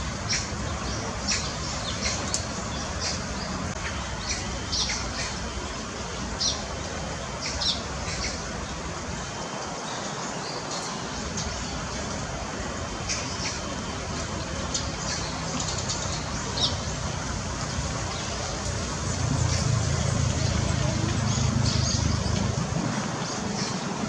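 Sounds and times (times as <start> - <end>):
sparrows chirping: 0.0 - 5.6, 6.3 - 8.9, 12.9 - 24.0.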